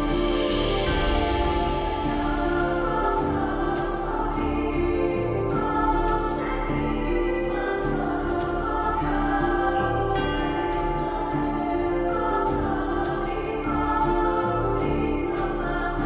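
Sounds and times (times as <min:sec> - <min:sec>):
slow sustained chords: 0:00.0 - 0:16.0.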